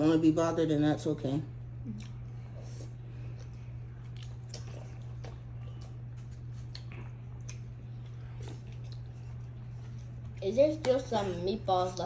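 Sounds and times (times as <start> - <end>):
wet chewing sounds: 1.7 - 12.0.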